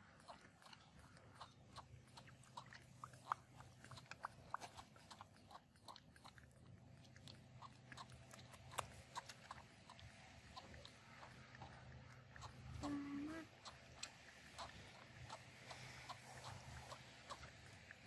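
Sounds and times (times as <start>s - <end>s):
low steady hum: 0.0s - 18.0s
monkeys sucking milk bottles: 0.0s - 18.0s.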